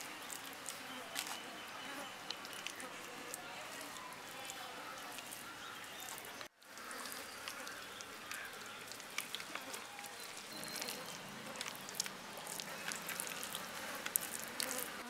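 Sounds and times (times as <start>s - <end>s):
hands squishing paste on fish: 2.2s - 15.0s.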